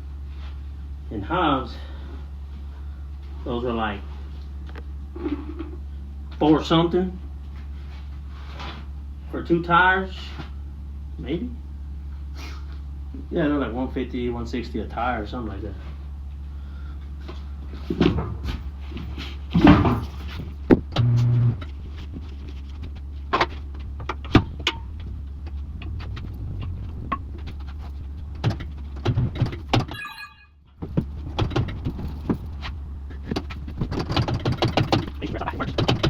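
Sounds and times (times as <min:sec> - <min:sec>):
steady low hum: 0:00.0 - 0:34.1.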